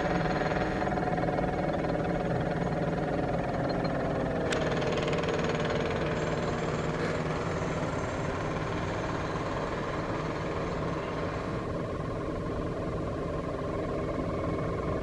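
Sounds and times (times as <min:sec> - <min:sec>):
train hum and rumble: 0:00.0 - 0:15.0.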